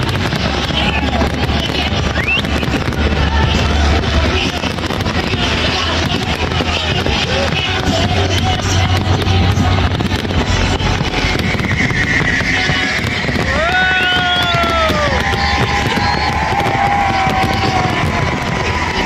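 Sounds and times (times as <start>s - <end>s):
fireworks crackling and banging: 0.0s - 19.0s
low rumble: 0.0s - 19.0s
music over loudspeakers: 0.0s - 19.0s.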